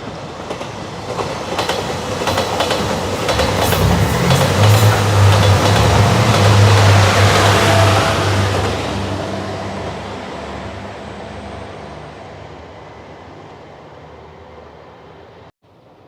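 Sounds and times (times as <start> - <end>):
diesel train engine: 0.0 - 15.5.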